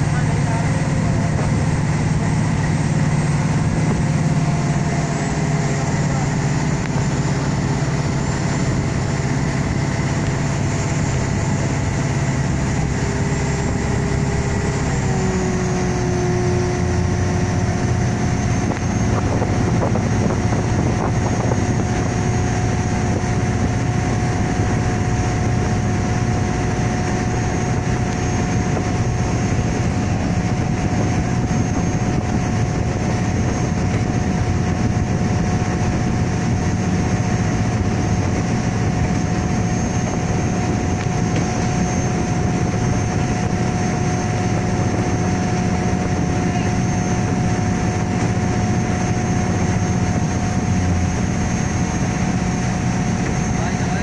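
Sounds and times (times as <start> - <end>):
motorboat engine running: 0.0 - 54.0
rush of wind and water: 0.0 - 54.0.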